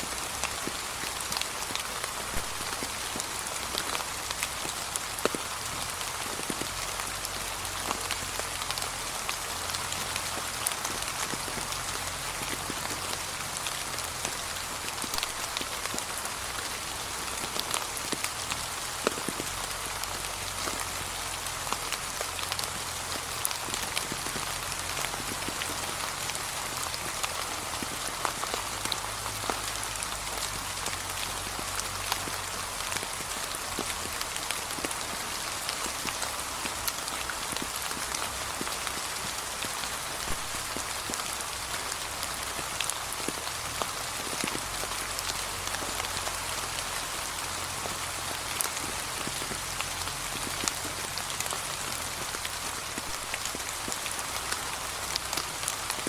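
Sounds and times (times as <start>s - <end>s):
light rain falling: 0.0s - 56.0s
raindrops tapping: 0.1s - 56.0s.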